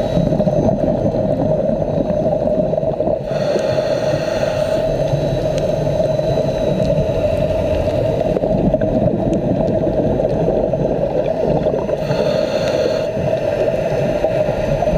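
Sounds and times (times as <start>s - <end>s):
constant hum: 0.0s - 14.9s
muffled underwater rush: 0.0s - 14.9s.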